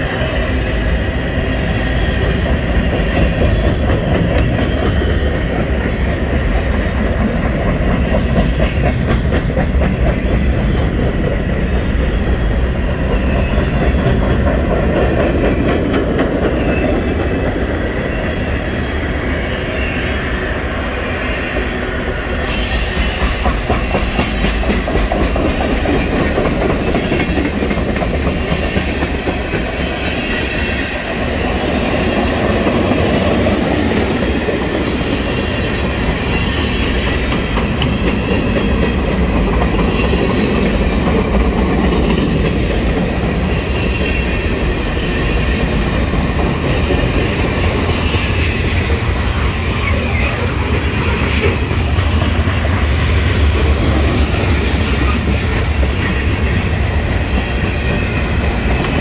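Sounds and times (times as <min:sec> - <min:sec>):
freight train cars rolling: 0:00.0 - 0:59.0.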